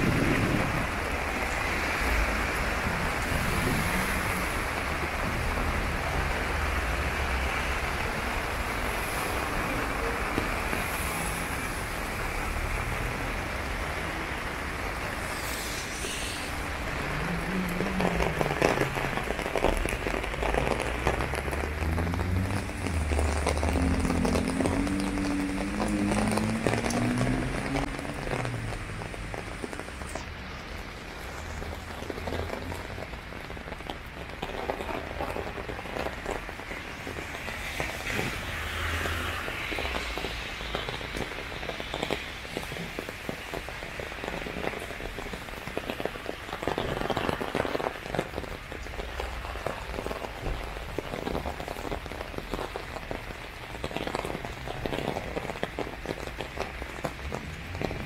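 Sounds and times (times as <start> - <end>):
rain drops hitting umbrella: 0.0 - 58.0
rain hissing on wet pavement: 0.0 - 58.0.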